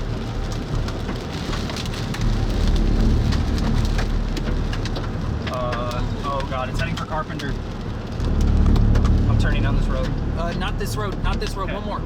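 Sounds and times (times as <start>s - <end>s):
hailstones hitting: 0.0s - 12.0s
low rumble of wind and vehicle: 0.0s - 12.0s
rain pelting a vehicle: 0.0s - 12.0s.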